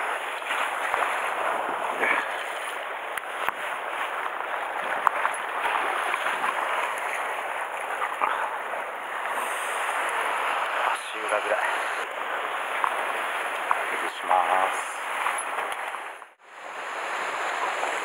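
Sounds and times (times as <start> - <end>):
surf washing against rocks: 0.0 - 18.0.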